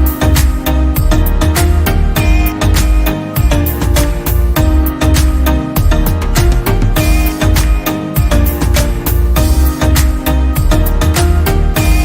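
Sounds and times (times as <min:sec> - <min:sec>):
bass: 0:00.0 - 0:12.0.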